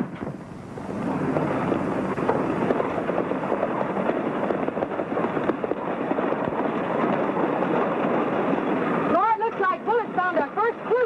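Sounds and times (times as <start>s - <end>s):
horse hoofbeats on rocky ground: 2.1s - 11.0s.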